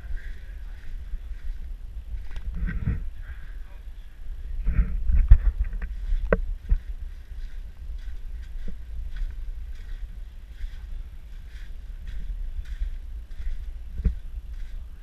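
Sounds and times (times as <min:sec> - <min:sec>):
footsteps on sand and rock: 0:00.0 - 0:03.0, 0:05.2 - 0:15.0
microphone handling noise: 0:00.0 - 0:03.6, 0:04.4 - 0:14.9
wind rumble: 0:00.0 - 0:15.0.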